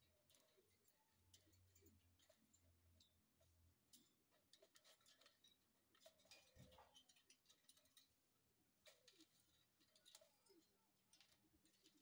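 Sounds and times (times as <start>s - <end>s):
claws and beaks tapping cage bars: 0.1s - 12.0s.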